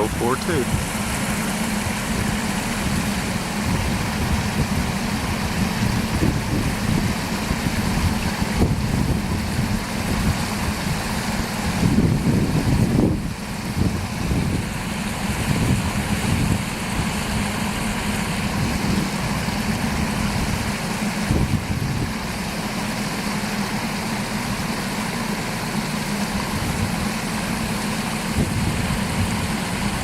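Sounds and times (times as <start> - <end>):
waterfall splashing: 0.0 - 30.0.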